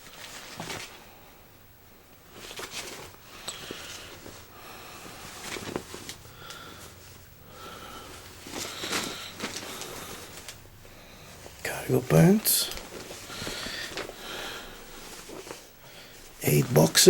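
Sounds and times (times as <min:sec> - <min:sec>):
fabric rustling: 0:00.0 - 0:01.4, 0:02.2 - 0:17.0.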